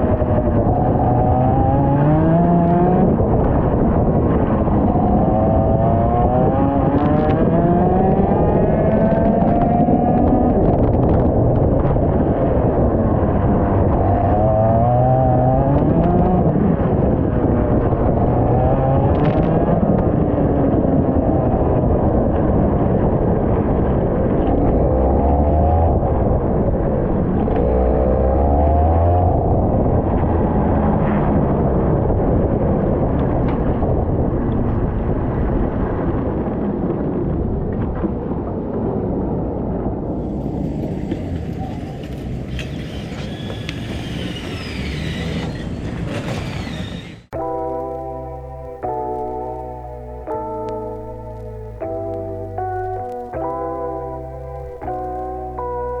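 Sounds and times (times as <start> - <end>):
muffled kart engine racing: 0.0 - 36.0, 39.8 - 49.6.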